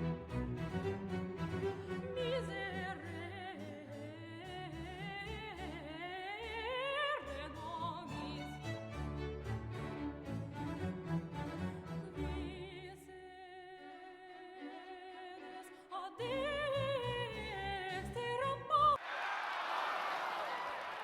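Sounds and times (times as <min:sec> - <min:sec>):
operatic singing with vibrato: 0:00.2 - 0:09.1, 0:09.7 - 0:19.1.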